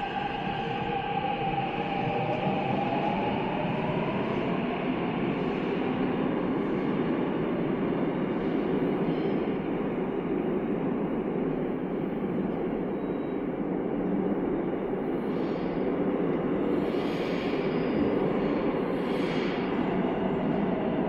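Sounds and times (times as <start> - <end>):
subway train running: 0.0 - 21.0.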